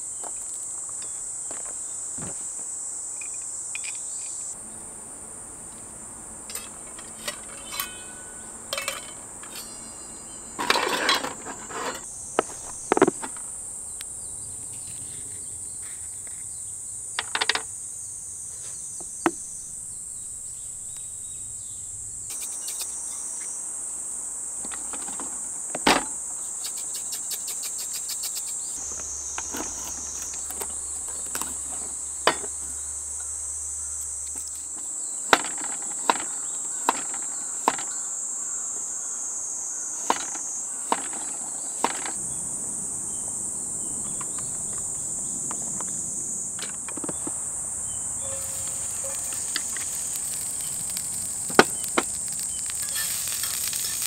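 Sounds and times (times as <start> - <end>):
insects calling: 0.0 - 54.0.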